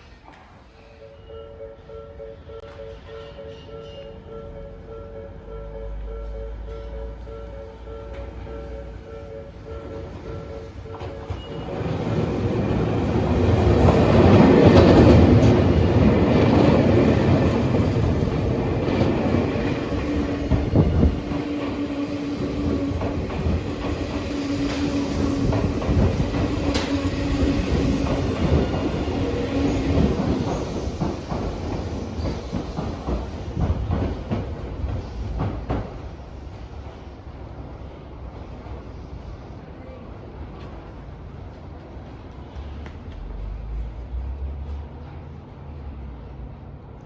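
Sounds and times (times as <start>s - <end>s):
electric train rumble: 0.0s - 47.0s.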